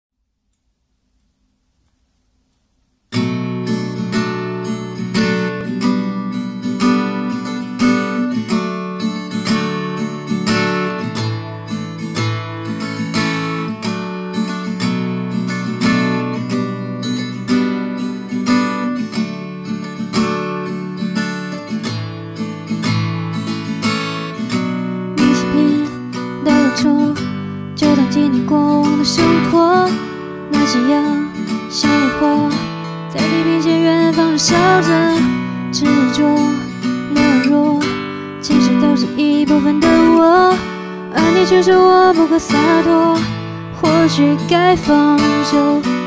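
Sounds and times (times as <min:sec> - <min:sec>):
acoustic guitar strumming: 0:03.1 - 0:46.0.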